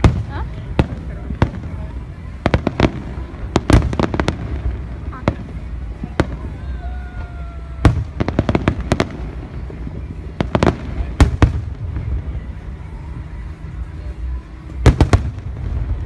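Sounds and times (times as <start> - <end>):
fireworks bangs and crackles: 0.0 - 16.0
steady low rumble: 0.0 - 16.0.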